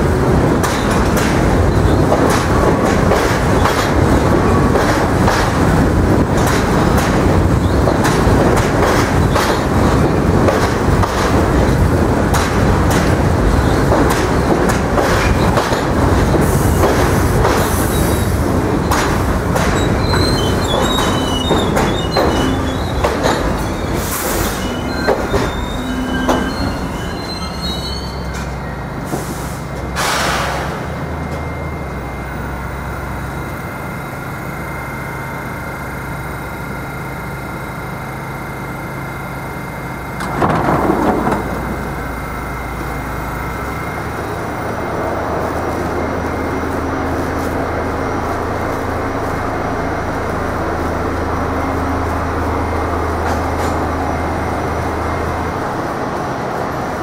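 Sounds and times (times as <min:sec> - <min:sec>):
subway train electrical hum: 0:00.0 - 0:57.0.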